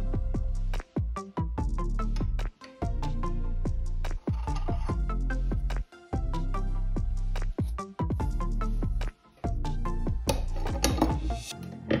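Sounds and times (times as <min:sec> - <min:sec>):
steady bass line: 0:00.0 - 0:11.5.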